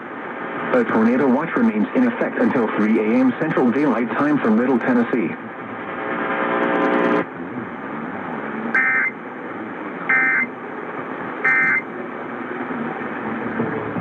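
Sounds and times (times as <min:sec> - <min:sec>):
radio static hiss: 0:00.2 - 0:14.0.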